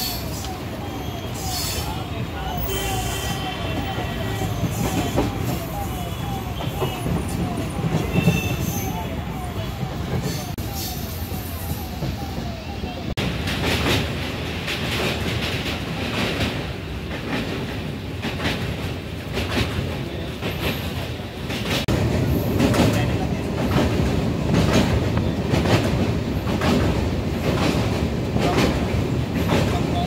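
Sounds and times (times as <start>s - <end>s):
train wheels rumbling on rails: 0.0s - 30.0s
clickety-clack over rail joints: 2.5s - 10.6s, 11.3s - 30.0s.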